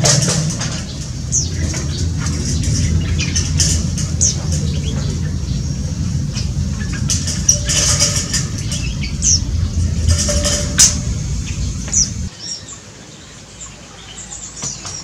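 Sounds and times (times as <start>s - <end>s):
low rumble: 0.0s - 12.3s
small birds chirping: 0.0s - 15.0s.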